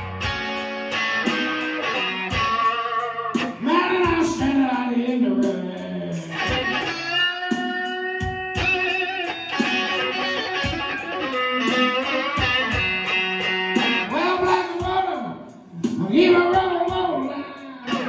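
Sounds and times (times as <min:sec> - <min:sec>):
electric guitar blues lead: 0:00.0 - 0:18.0.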